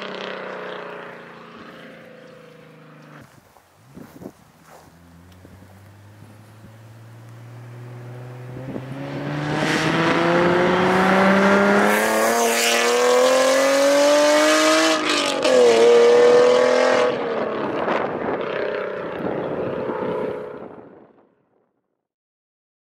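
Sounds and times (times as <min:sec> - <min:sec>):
car engine accelerating hard: 0:00.0 - 0:03.4, 0:04.0 - 0:20.9.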